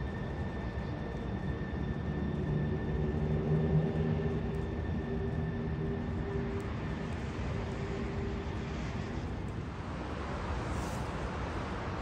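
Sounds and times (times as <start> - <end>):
low rumble and hiss outdoors: 0.0 - 12.0.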